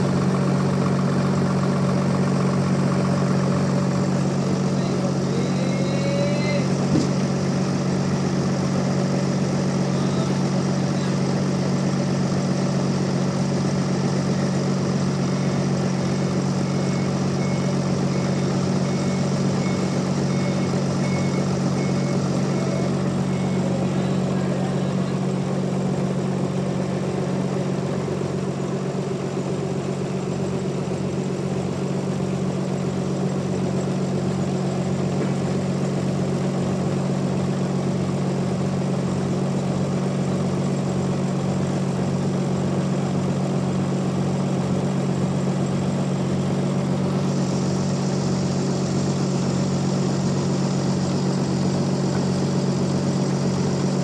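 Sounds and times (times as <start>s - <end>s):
bandsaw mill running: 0.0s - 28.6s, 33.2s - 54.0s.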